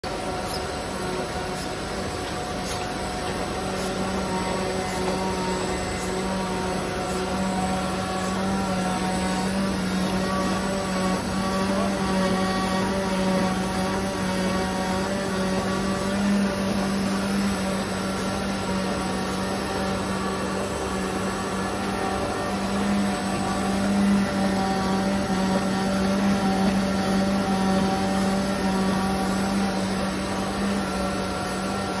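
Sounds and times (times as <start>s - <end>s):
machine hum: 0.0s - 32.0s
mechanical whir: 0.1s - 32.0s.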